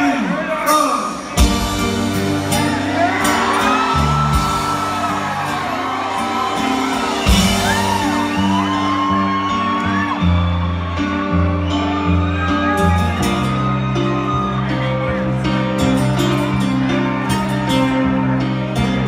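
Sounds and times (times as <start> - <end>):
live rock band playing: 0.6 - 19.0
audience whooping: 2.1 - 18.2.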